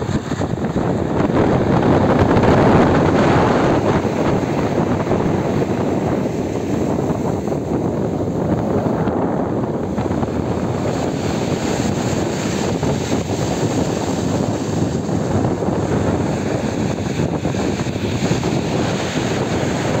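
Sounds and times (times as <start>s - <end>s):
surf on shingle shore: 0.0s - 20.0s
wind buffeting microphone: 0.0s - 20.0s.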